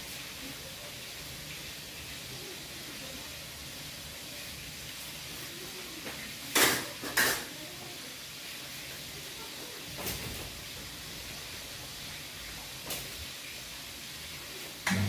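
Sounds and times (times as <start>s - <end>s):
stockpot simmering hiss: 0.0s - 15.0s.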